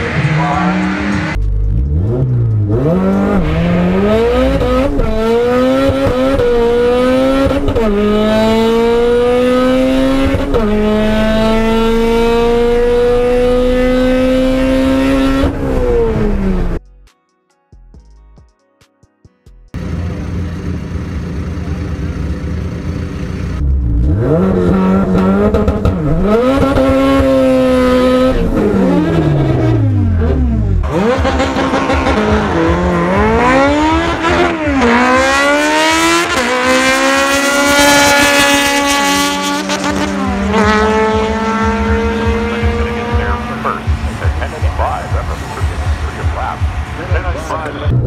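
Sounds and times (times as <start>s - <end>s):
car engine revving through gears: 0.0s - 16.8s, 23.3s - 48.0s.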